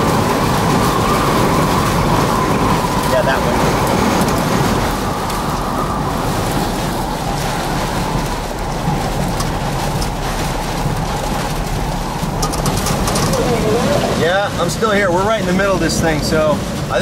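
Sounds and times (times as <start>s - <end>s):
heavy rain on vehicle: 0.0s - 17.0s
strong wind: 0.0s - 17.0s.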